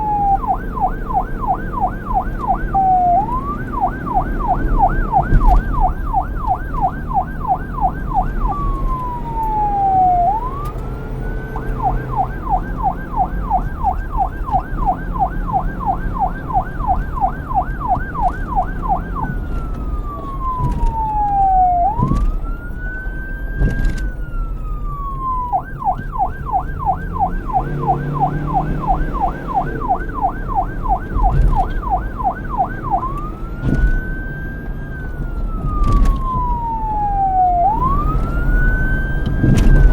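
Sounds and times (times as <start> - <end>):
police siren yelp and wail: 0.0 - 39.9.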